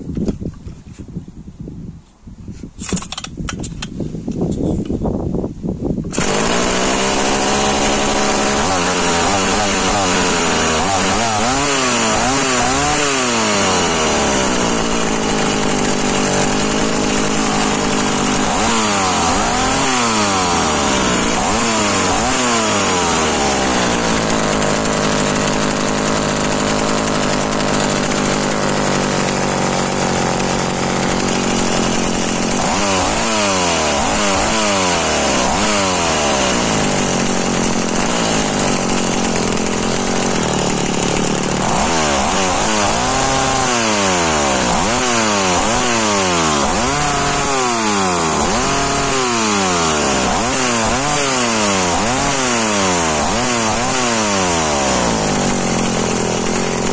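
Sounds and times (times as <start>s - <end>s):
chainsaw engine revving: 6.1s - 56.9s.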